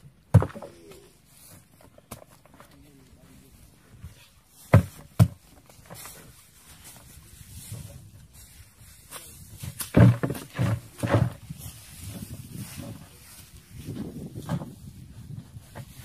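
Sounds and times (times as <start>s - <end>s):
rustling of soil and grass: 0.0s - 16.0s.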